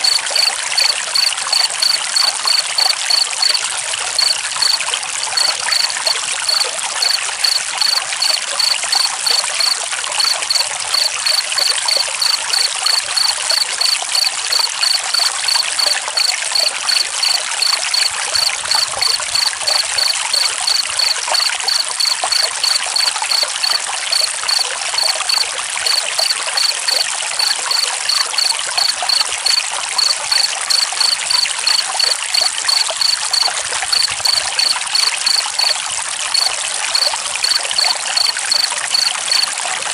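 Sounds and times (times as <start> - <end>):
cricket chirping: 0.0 - 39.6
running water: 0.0 - 39.9.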